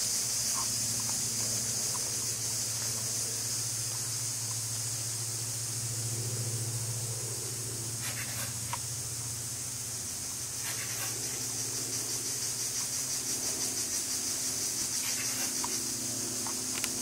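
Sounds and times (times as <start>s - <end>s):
insect chorus buzzing: 0.0s - 17.0s
low hum: 0.0s - 17.0s.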